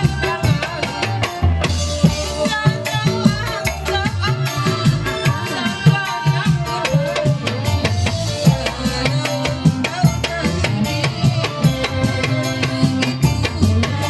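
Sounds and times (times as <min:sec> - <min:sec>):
fast hand-drum beat: 0:00.0 - 0:14.0.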